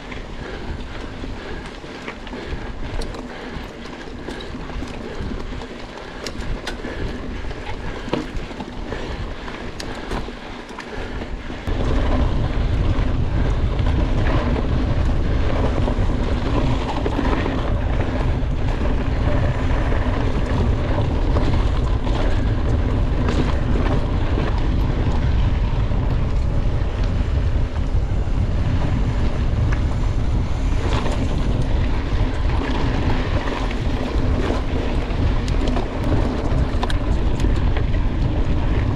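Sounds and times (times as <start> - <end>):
small rattles and clicks: 0.0 - 28.0, 30.7 - 38.9
bike tyre and trail noise: 0.0 - 38.9
wind rumble on microphone: 0.0 - 38.9.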